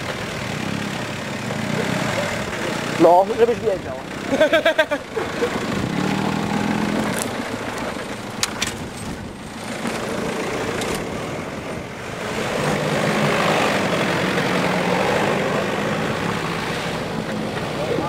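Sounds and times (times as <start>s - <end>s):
car engine driving on dirt: 0.0s - 18.0s.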